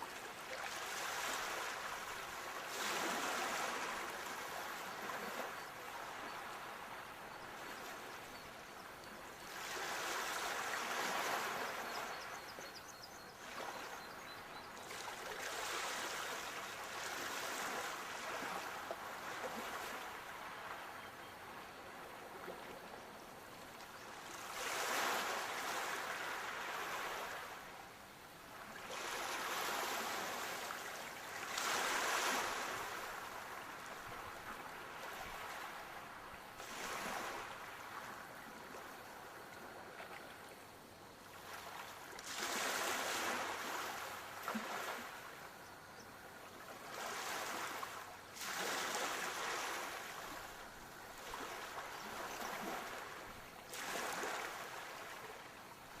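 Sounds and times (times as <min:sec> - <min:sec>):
sea waves breaking on shore: 0:00.0 - 0:08.1, 0:09.4 - 0:12.2, 0:14.9 - 0:22.7, 0:23.6 - 0:27.7, 0:28.6 - 0:40.4, 0:41.3 - 0:45.6, 0:46.6 - 0:56.0.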